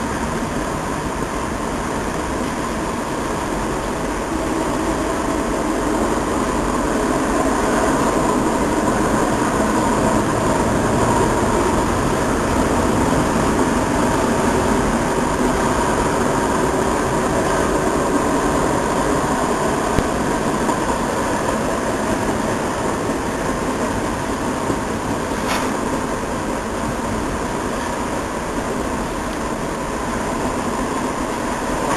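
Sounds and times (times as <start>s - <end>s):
freight train wheels on rails: 0.0s - 31.9s.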